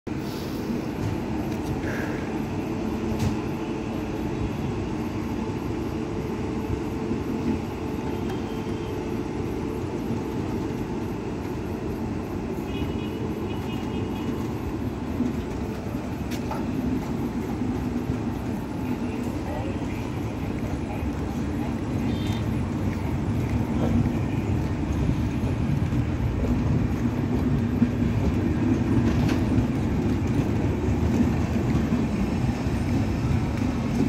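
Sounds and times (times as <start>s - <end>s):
train wheels rolling on rails: 0.1s - 34.0s.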